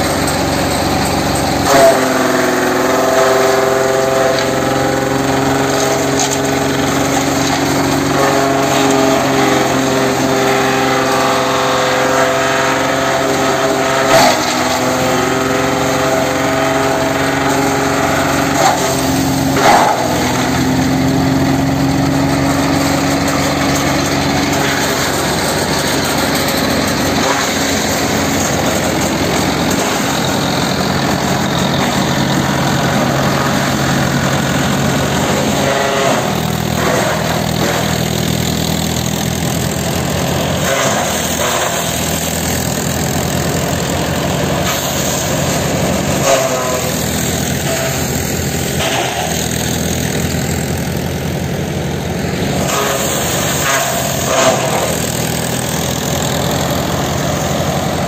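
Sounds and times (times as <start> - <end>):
shredder chewing fronds: 0.0 - 58.0
tractor diesel engine running: 0.0 - 58.0
sharp knocks in shredder: 0.2 - 50.9.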